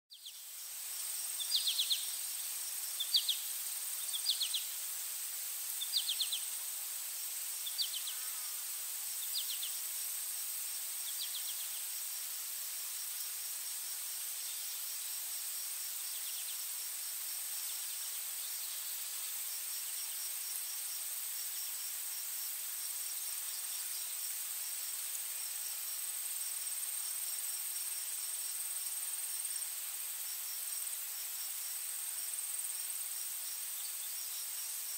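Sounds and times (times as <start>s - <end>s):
insect rapid-pulsed chirps: 0.1s - 29.6s
insects trilling: 0.1s - 34.9s.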